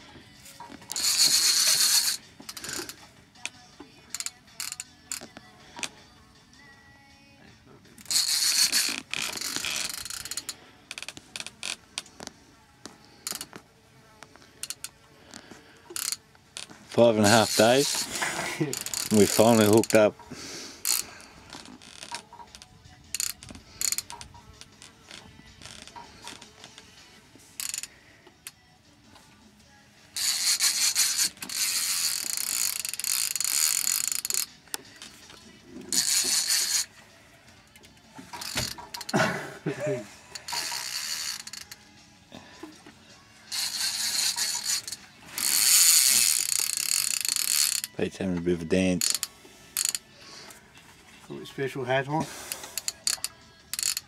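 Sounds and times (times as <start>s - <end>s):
fishing reel ratcheting: 0.6s - 6.0s, 8.0s - 12.3s, 13.1s - 13.6s, 14.5s - 28.6s, 30.1s - 37.0s, 37.6s - 39.2s, 40.2s - 42.0s, 42.7s - 50.6s, 52.3s - 54.0s.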